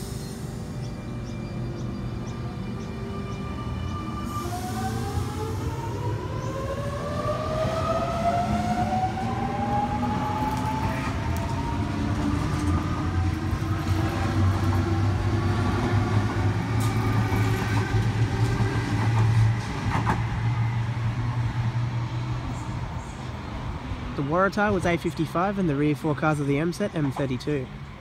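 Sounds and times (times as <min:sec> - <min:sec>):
train cars rolling rumble: 0:00.0 - 0:28.0.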